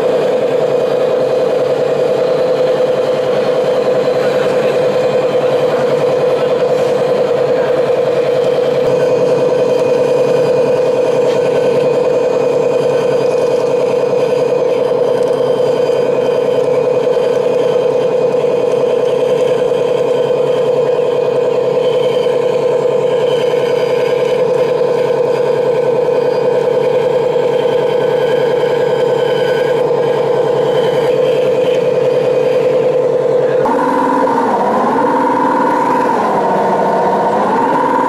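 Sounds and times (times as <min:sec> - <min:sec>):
model excavator mechanical whine: 0:00.0 - 0:38.0.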